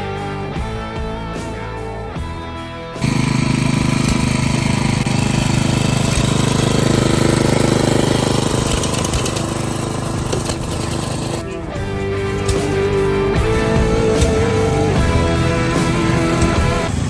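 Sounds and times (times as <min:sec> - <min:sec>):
engine running steadily: 0:03.0 - 0:17.0.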